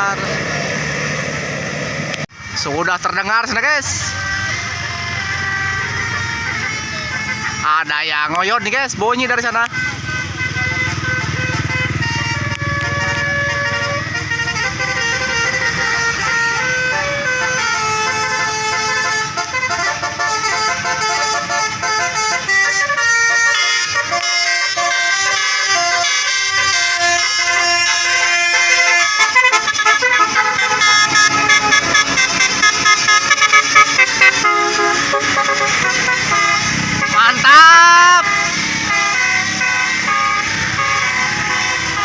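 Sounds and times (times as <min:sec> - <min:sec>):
bus horn playing a tune: 0:03.7 - 0:42.0.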